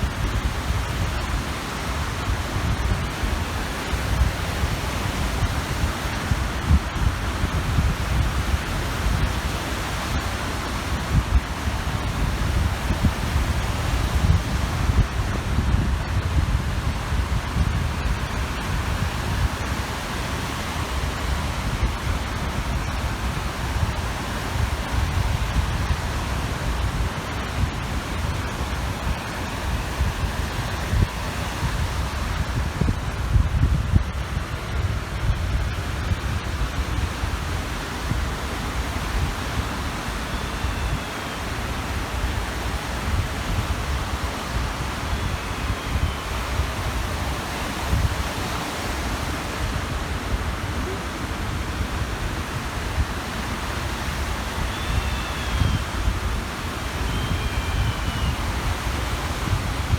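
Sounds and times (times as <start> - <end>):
small waves washing on shore: 0.0 - 59.9
wind gusting on microphone: 0.0 - 59.9.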